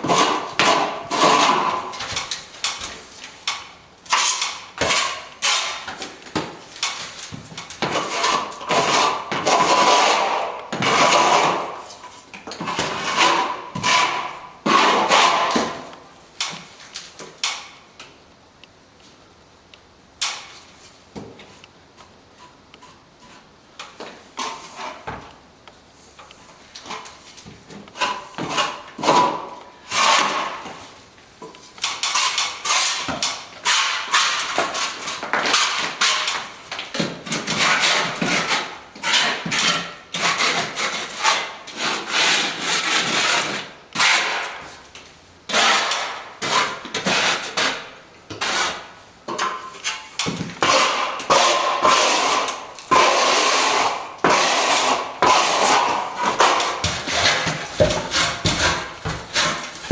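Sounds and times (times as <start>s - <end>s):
tool scraping plaster wall: 0.0s - 16.7s, 22.0s - 25.3s, 26.8s - 31.0s, 31.7s - 44.9s, 45.5s - 59.9s.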